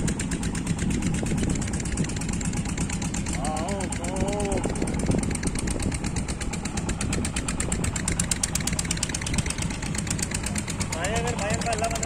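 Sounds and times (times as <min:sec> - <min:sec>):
engine running with fast ticking: 0:00.0 - 0:12.0.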